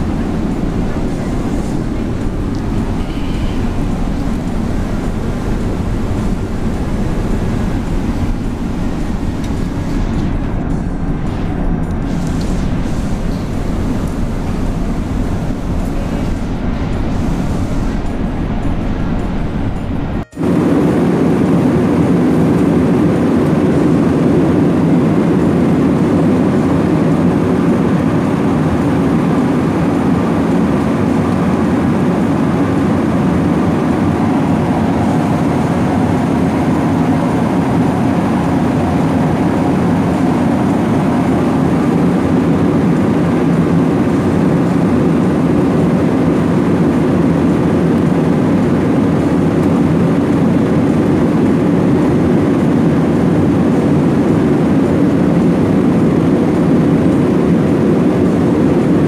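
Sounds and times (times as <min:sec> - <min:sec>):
airliner cabin engine rush: 0:00.0 - 0:59.0.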